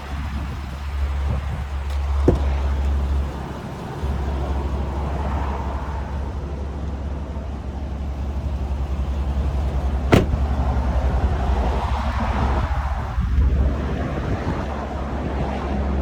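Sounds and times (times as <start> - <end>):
pickup engine idling: 0.0 - 13.1.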